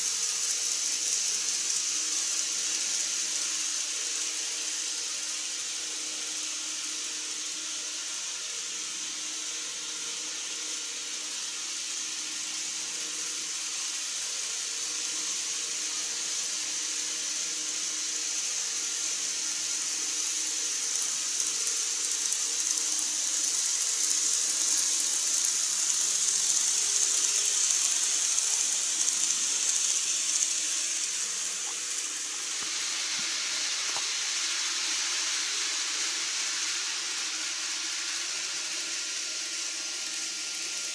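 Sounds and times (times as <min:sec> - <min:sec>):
model trains hissing on track: 0:00.0 - 0:40.9.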